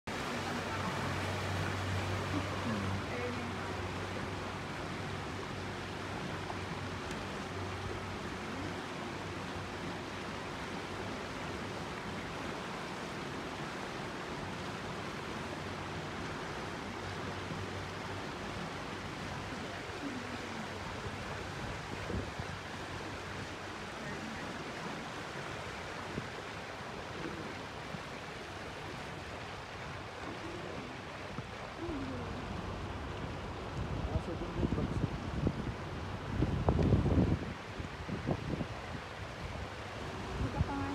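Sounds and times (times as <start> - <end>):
water and air rushing past boat: 0.1 - 40.9.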